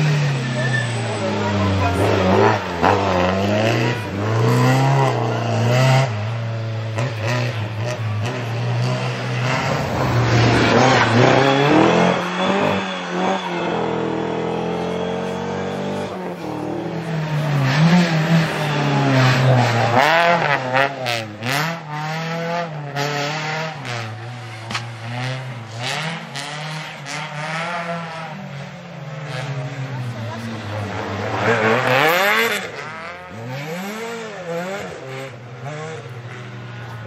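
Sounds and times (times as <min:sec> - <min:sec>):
rally car engine revving: 0:00.0 - 0:37.0.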